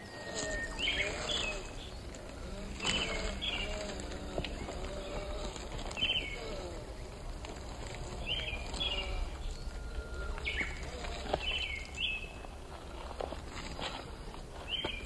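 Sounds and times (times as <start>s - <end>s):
bird chirps: 0.0s - 15.0s
outdoor background noise: 0.0s - 15.0s.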